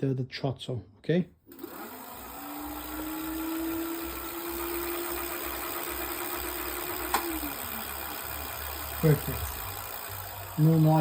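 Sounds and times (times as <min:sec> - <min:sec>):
electric motor whine: 0:01.5 - 0:11.0.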